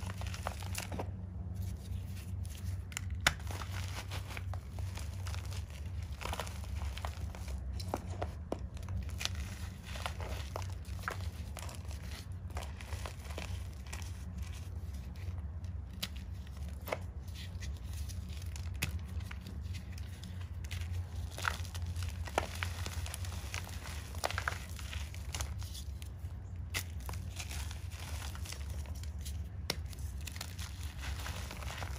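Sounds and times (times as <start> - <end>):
hands crushing chalk: 0.0 - 31.9.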